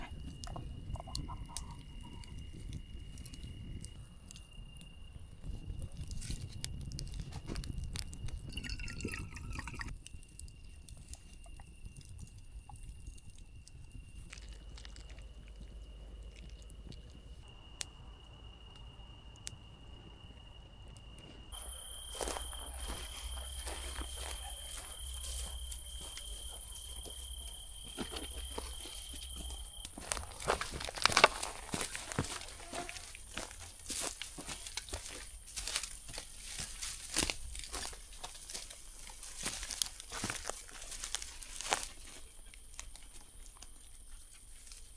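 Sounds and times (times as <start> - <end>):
insect trill: 0.0 - 44.9.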